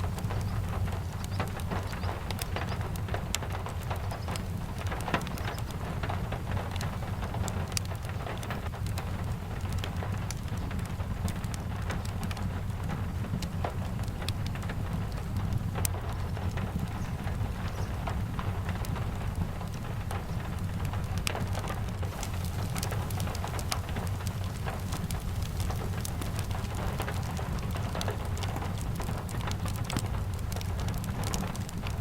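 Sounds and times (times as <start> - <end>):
low steady rumble: 0.0 - 32.0
steady rain falling: 0.0 - 32.0
wood fire crackling: 0.0 - 32.0.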